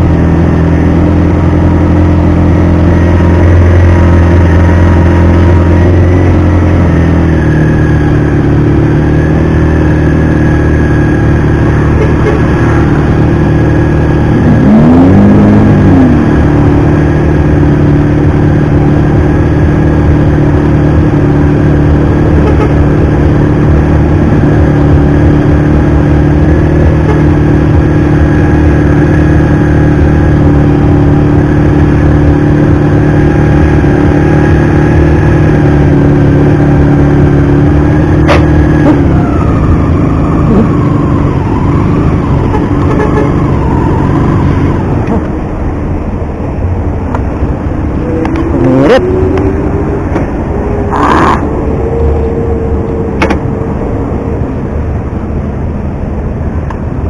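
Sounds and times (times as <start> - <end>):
motorcycle engine running: 0.0 - 56.8.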